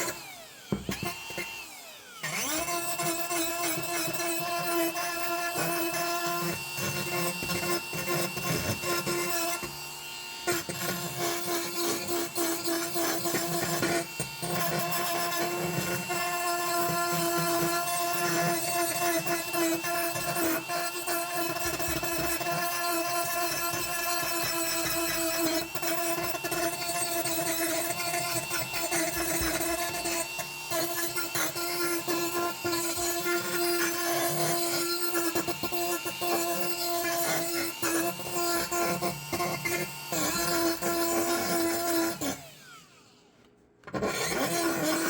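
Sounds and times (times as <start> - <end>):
rotary tool grinding iron: 2.2 - 43.0, 44.0 - 45.0.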